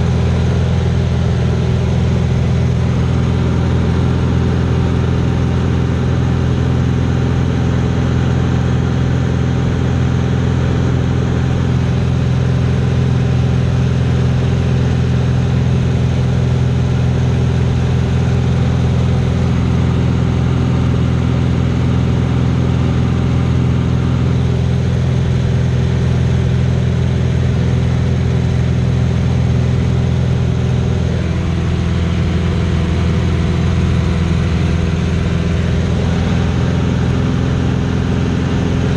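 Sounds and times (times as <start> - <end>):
biplane engine and propeller: 0.0 - 38.9.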